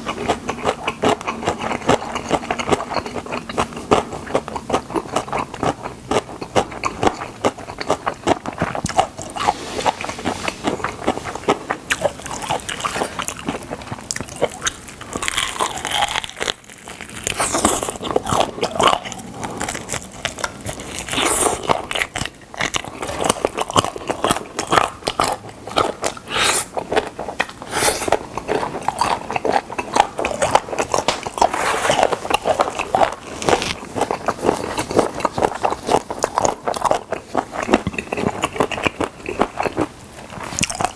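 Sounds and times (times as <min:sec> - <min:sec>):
crunching and chewing fried chicken: 0:00.0 - 0:40.9.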